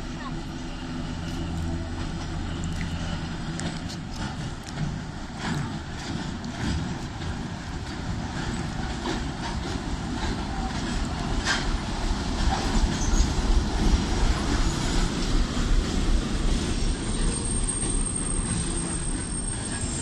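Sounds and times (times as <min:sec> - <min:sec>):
train rumbling past: 0:00.0 - 0:20.0
wheels clicking on rails: 0:00.2 - 0:20.0.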